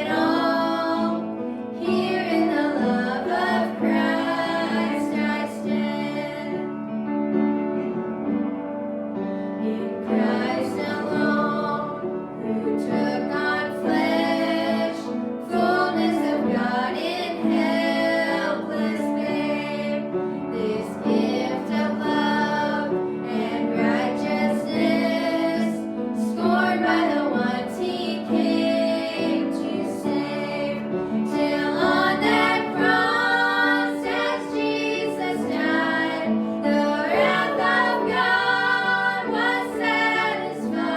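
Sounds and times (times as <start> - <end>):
women singing a hymn: 0.0 - 7.0, 9.4 - 40.9
piano accompaniment: 0.0 - 40.9.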